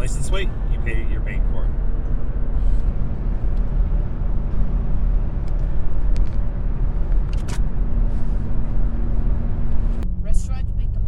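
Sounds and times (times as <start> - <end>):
road and engine rumble: 0.0 - 11.0
steady hum: 0.0 - 11.0.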